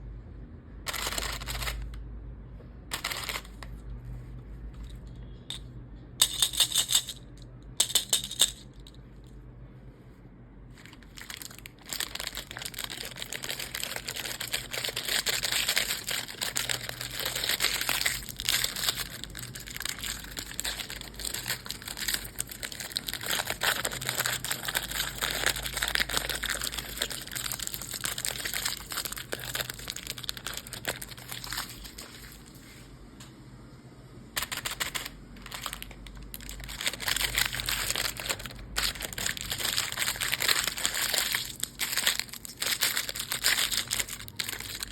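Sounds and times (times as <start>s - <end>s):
candy wrappers crinkling: 0.9s - 2.0s, 2.9s - 3.8s, 6.2s - 9.0s, 10.8s - 32.6s, 34.4s - 44.9s.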